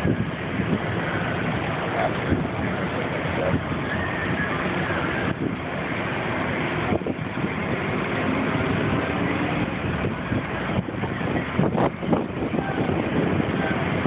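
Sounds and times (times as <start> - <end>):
passing traffic rumble: 0.0 - 14.0.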